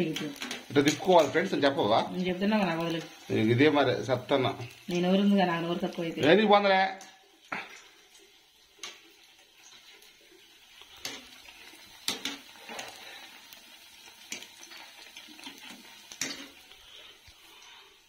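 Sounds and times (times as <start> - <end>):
fritters sizzling in oil: 0.0 - 18.0.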